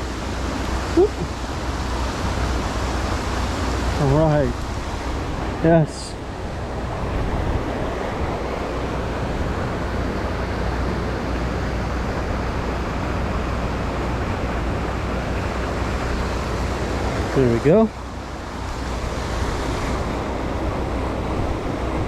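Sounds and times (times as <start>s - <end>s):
creek water flowing: 0.0s - 22.0s
wind rumble on microphone: 0.0s - 22.0s.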